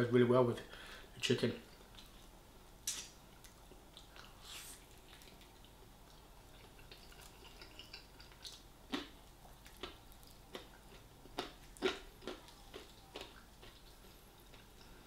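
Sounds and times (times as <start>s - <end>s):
person chewing wetly: 1.7s - 2.3s, 3.4s - 15.0s.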